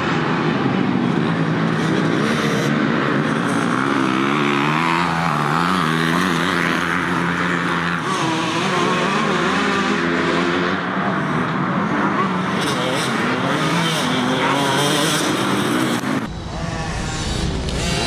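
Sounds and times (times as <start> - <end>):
motocross bike engines revving: 0.1 - 18.0.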